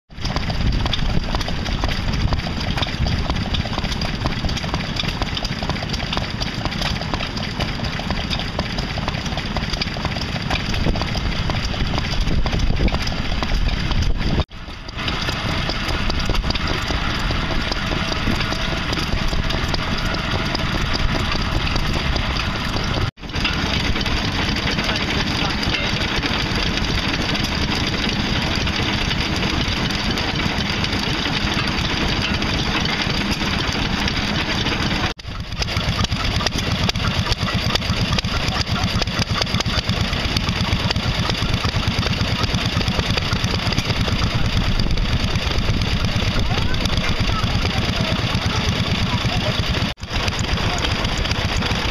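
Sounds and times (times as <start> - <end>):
stationary engine running: 0.1 - 51.9.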